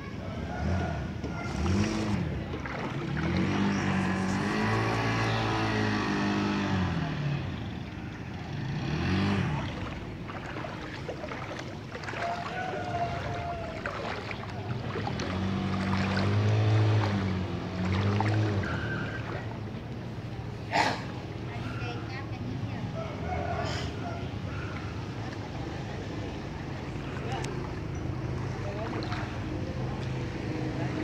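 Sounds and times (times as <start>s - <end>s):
vehicle engines revving: 0.0s - 31.0s.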